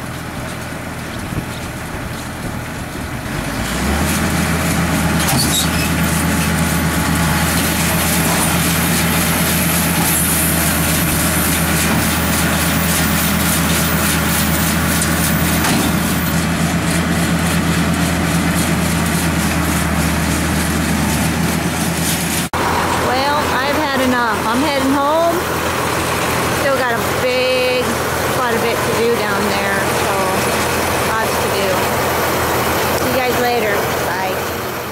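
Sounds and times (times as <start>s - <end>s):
noisy rattle: 0.0s - 34.9s
vehicle engine humming: 0.0s - 34.9s.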